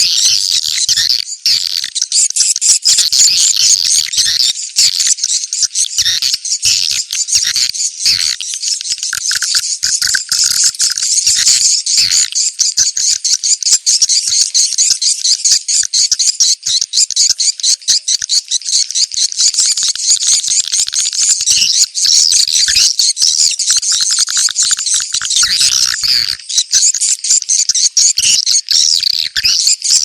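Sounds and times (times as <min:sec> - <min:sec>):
swiftlets twittering chirps: 0:00.0 - 0:30.0.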